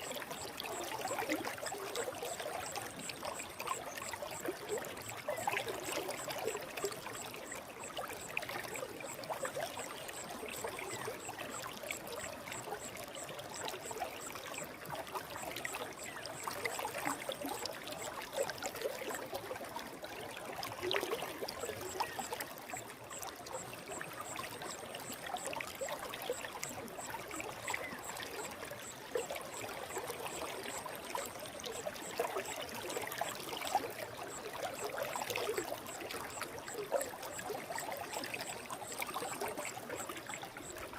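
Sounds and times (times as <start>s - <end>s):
stream flowing: 0.0s - 40.9s
water trickling splashes: 0.0s - 40.9s.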